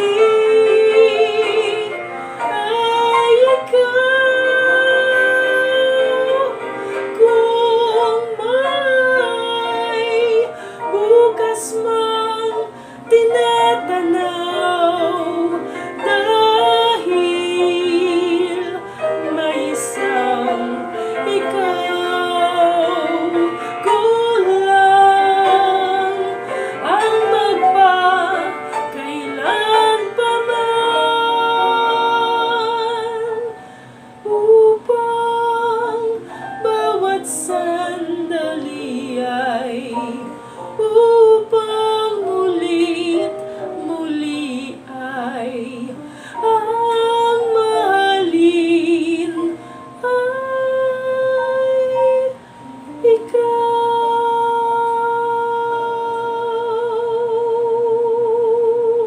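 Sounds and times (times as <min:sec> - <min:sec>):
woman singing a ballad: 0:00.0 - 0:59.0.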